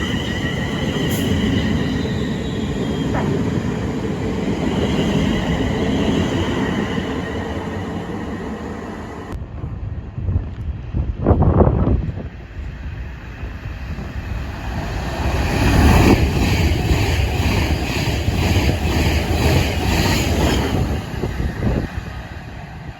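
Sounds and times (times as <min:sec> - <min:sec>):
high whine of electric train: 0:00.0 - 0:22.9
train wheels rumbling on rails: 0:00.0 - 0:22.9.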